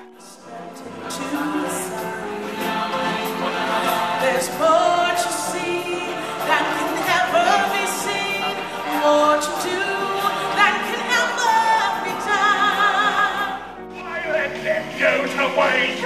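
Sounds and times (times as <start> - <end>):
choir singing: 0.0 - 16.0
solo voices singing with vibrato: 0.0 - 16.0.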